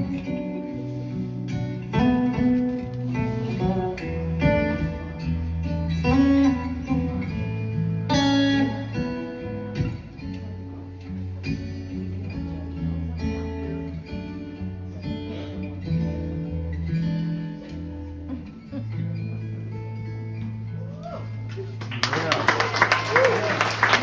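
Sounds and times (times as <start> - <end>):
acoustic guitar playing: 0.0 - 21.9.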